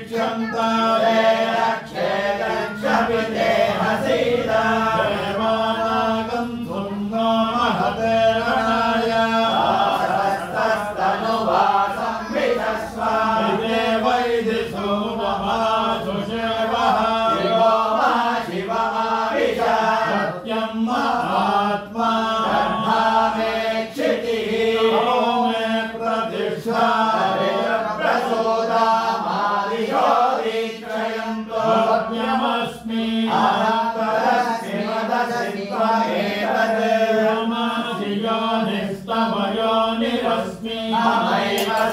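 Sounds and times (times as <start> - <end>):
chanting of mantras: 0.0 - 41.9.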